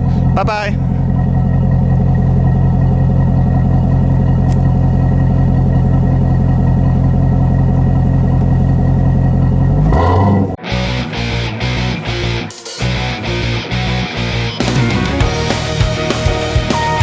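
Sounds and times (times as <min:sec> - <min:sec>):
sports car engine idling: 0:00.0 - 0:17.0.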